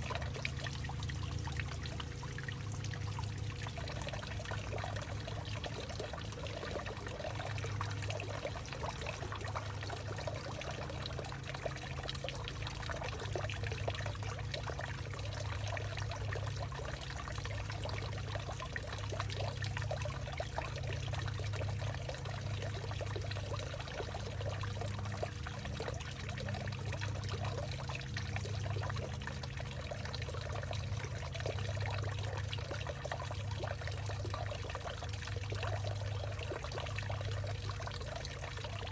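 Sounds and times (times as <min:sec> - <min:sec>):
water pouring and trickling: 0:00.0 - 0:38.9.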